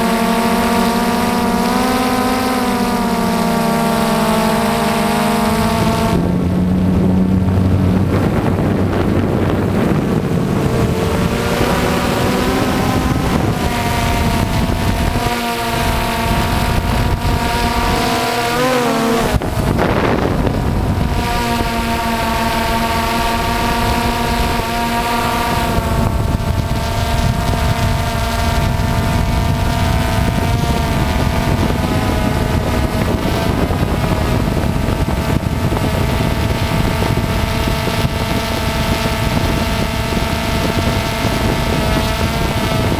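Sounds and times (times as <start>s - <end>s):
drone propellers buzzing: 0.0s - 42.9s
wind hiss on microphone: 0.0s - 42.9s.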